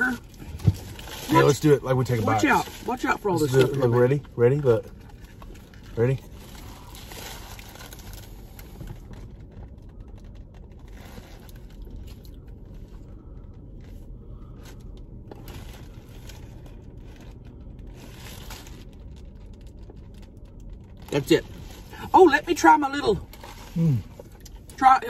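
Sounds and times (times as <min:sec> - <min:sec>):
car cabin hum: 0:00.0 - 0:25.0.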